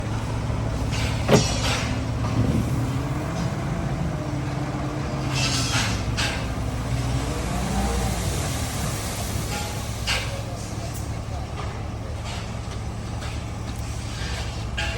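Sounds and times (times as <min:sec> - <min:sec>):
bulldozer diesel engine running: 0:00.0 - 0:14.9.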